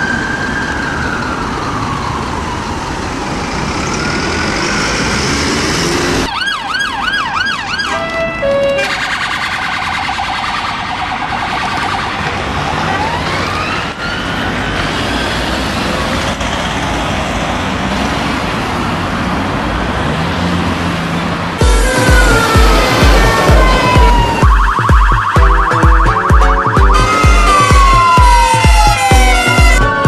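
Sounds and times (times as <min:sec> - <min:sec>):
emergency vehicle siren: 0:00.0 - 0:17.8, 0:21.1 - 0:30.0
road traffic noise: 0:00.0 - 0:30.0.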